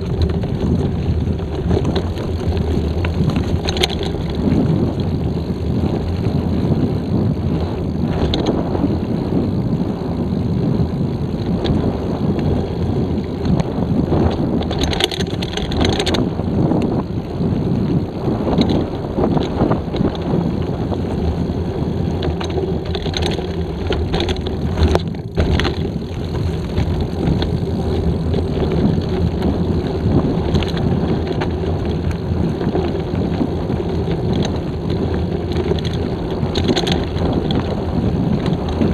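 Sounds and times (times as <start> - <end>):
bike rattling and knocking: 0.0 - 38.9
tyres rolling on dirt: 0.0 - 38.9
wind noise on microphone: 0.0 - 38.9.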